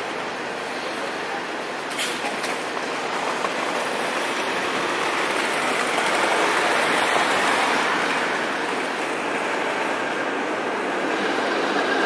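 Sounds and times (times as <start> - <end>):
streetcar rolling on rails: 0.0 - 12.0.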